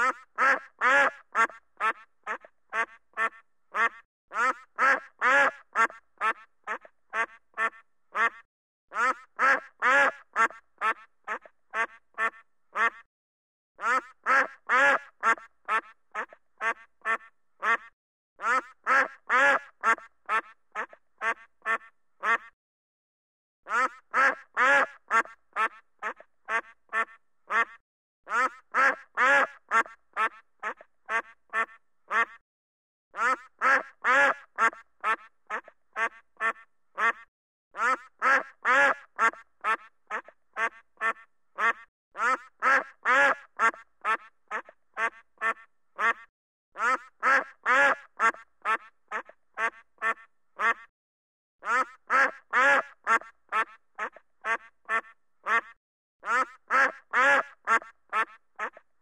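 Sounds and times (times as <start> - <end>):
duck quacking: 0.0 - 13.1, 13.8 - 22.6, 23.7 - 32.4, 33.1 - 50.9, 51.6 - 58.9.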